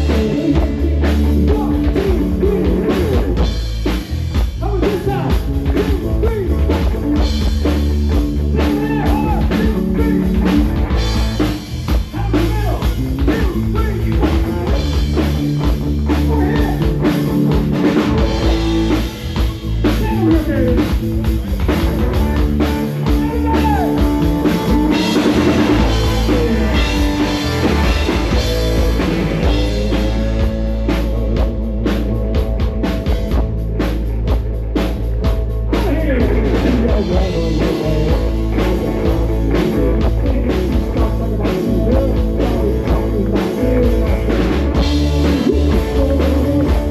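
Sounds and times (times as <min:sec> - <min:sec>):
drum kit beating: 0:00.0 - 0:46.9
electric guitar lead bending: 0:00.0 - 0:46.9
rock band playing: 0:00.0 - 0:46.9.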